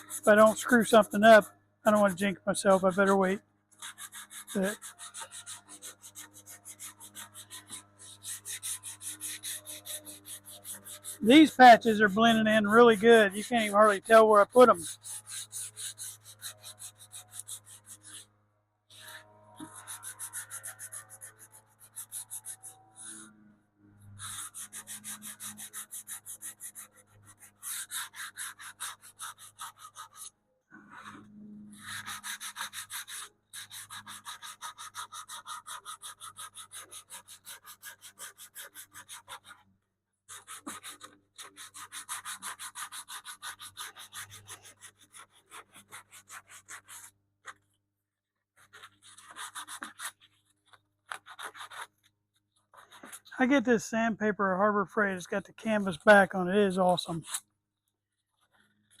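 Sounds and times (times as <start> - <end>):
sandpaper rubbing on wood: 0.0 - 3.2, 3.8 - 18.3, 18.9 - 23.3, 24.2 - 39.6, 40.3 - 47.6, 48.6 - 52.0, 52.7 - 53.4, 55.8 - 57.4.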